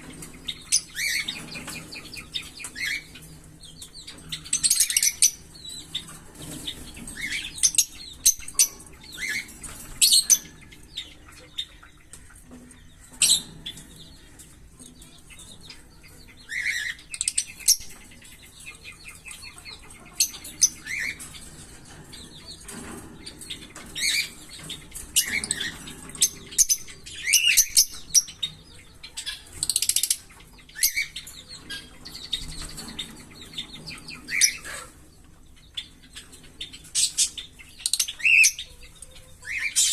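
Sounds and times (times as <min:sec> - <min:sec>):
parrots chirping and chattering: 0:00.0 - 0:39.9.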